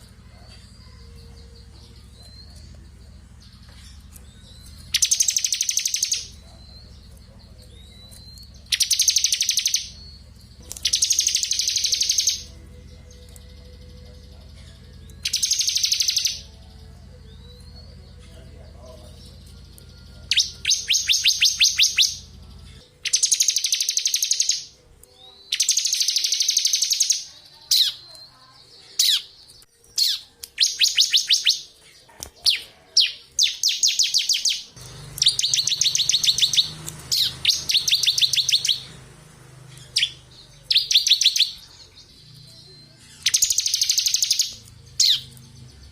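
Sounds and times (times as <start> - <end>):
bird singing fast high trill: 0.8 - 18.2, 19.2 - 28.2, 30.0 - 31.7, 32.5 - 39.0, 39.7 - 45.9.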